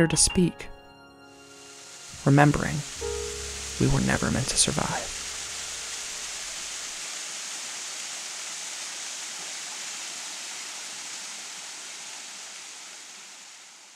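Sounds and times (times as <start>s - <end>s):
steady rushing hiss: 1.3s - 13.9s.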